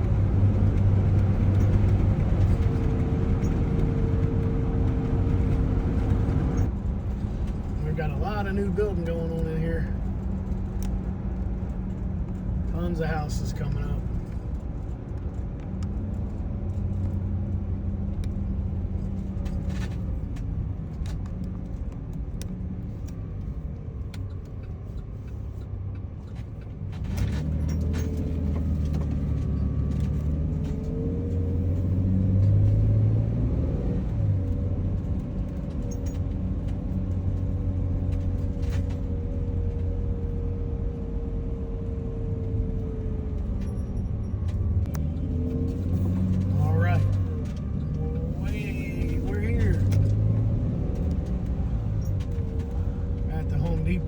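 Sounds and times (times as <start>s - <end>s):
van engine and tyres rumbling: 0.0s - 54.0s.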